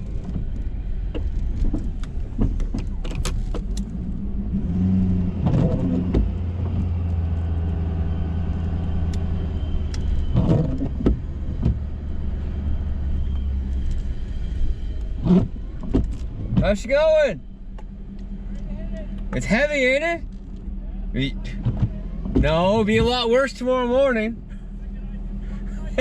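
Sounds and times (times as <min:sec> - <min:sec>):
pickup engine running: 0:00.0 - 0:26.0.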